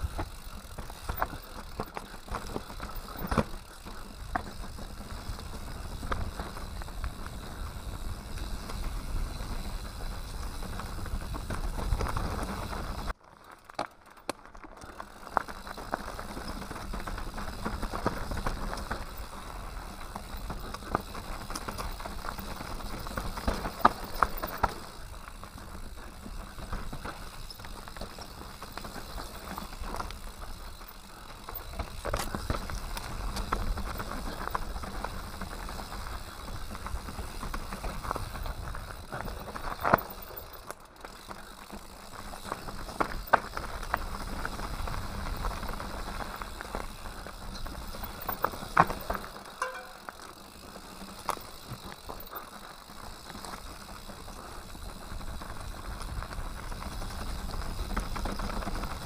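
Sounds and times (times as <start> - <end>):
bike frame and chain rattling: 0.0 - 59.0
bike tyres crunching over stones: 0.0 - 59.0.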